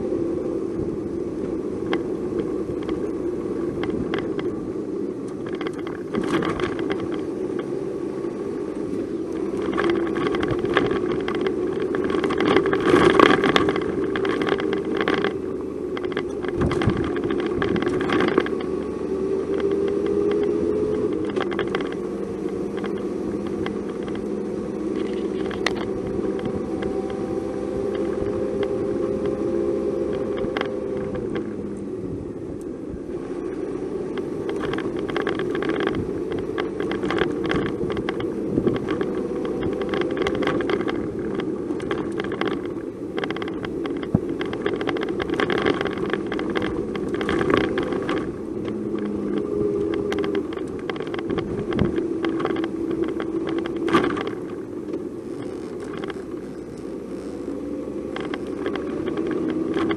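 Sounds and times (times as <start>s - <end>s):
road noise: 0.0s - 59.9s
vehicle engine: 0.0s - 59.9s.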